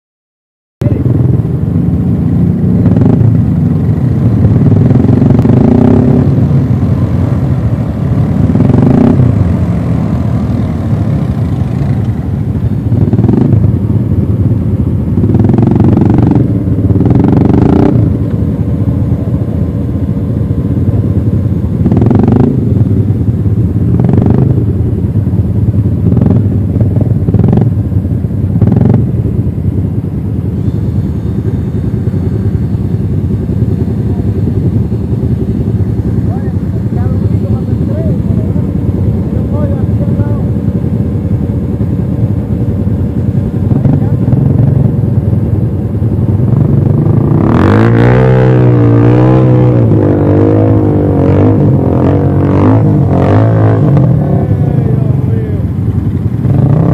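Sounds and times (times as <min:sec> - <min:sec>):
atv engine revving: 0:00.8 - 0:56.9.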